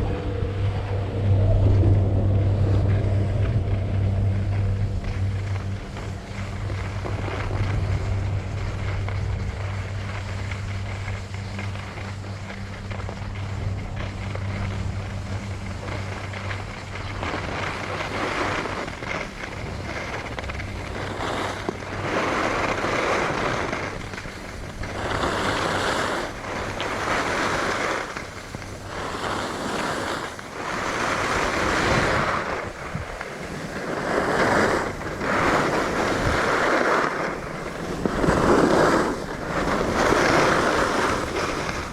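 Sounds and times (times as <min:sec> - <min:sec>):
skis carving on snow: 0:00.0 - 0:41.9
steady low hum: 0:00.0 - 0:41.9
wind buffeting microphone: 0:00.0 - 0:41.9.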